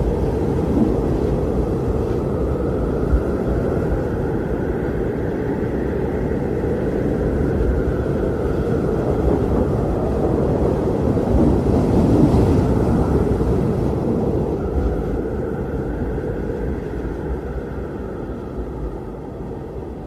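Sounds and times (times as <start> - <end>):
blizzard wind rushing: 0.0 - 20.0.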